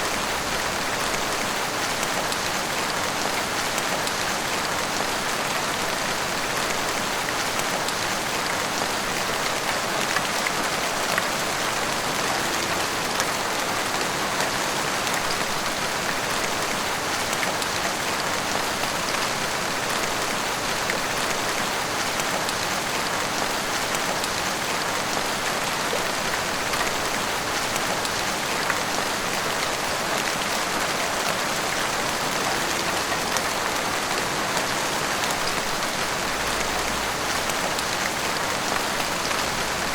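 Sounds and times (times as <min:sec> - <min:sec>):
heavy rain on rooftops: 0:00.0 - 0:39.9.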